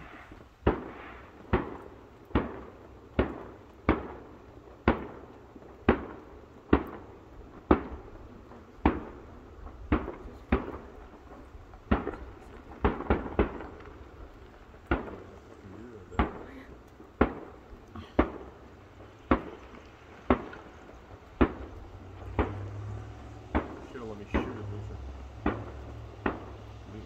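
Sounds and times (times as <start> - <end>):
distant fireworks bangs: 0.0 - 27.0
echoing rumble: 3.4 - 27.0.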